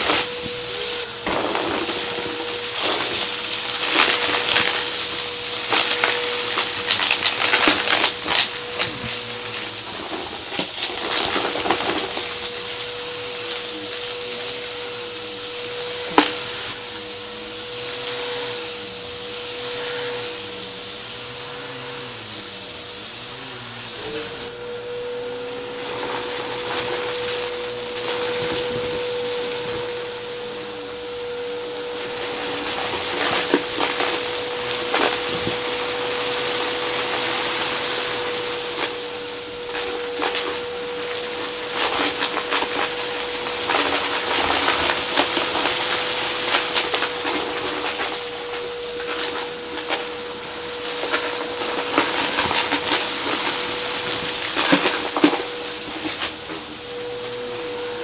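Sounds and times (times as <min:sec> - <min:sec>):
debris crackling up nozzle: 0:00.0 - 0:24.5, 0:25.2 - 0:58.0
vacuum cleaner running: 0:00.0 - 0:58.0.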